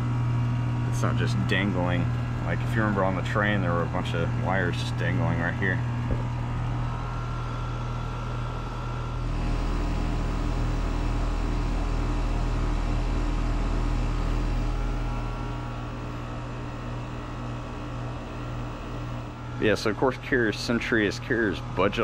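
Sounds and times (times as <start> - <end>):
compressor humming: 0.0 - 22.0
fan air rushing: 0.0 - 22.0.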